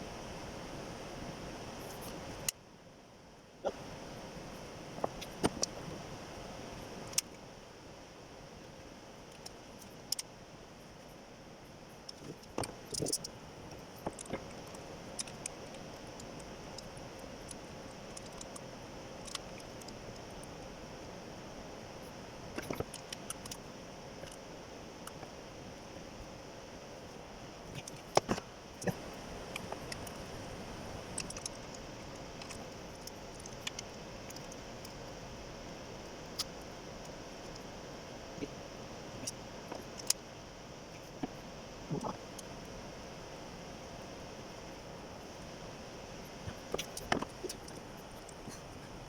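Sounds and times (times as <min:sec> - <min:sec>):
faint steady hiss: 0:00.0 - 0:49.0.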